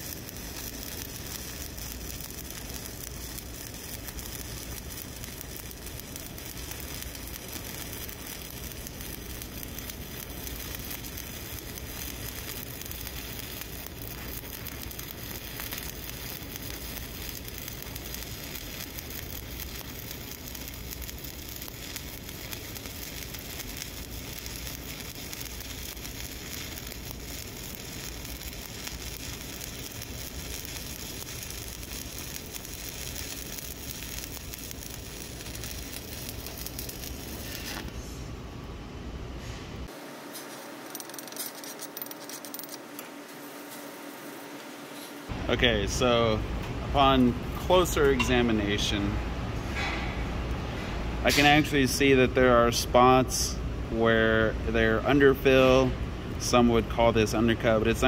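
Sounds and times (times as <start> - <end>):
welding arc crackling and sizzling: 0.0 - 38.3, 39.4 - 58.0.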